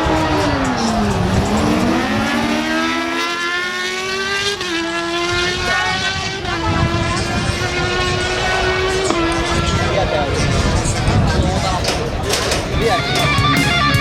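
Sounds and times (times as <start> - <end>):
sport bike engines at full throttle: 0.0 - 14.0.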